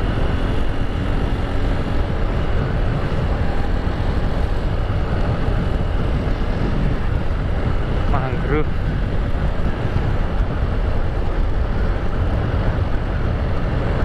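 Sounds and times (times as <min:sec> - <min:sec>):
motorbike engine and road rumble: 0:00.0 - 0:14.0
wind buffeting microphone: 0:00.0 - 0:14.0.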